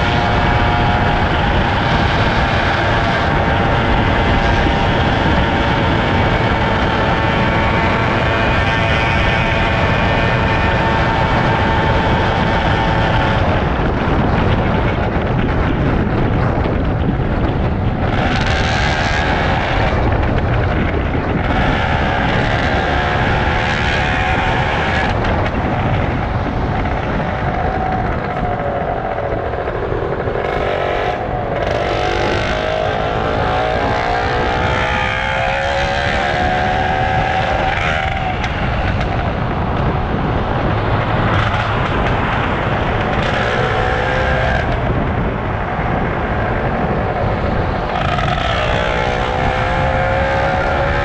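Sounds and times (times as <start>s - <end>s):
motorcycle engine running: 0.0s - 51.0s
rush of noise: 0.0s - 51.0s.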